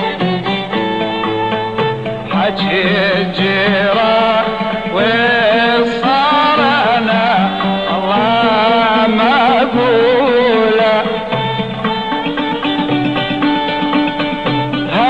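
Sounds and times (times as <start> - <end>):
ornamented melodic line: 0.0 - 15.0.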